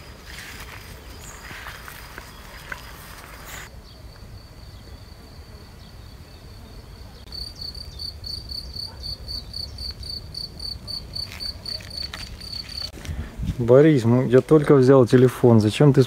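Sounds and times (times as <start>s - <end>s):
insect trilling and chirping: 0.0s - 13.0s.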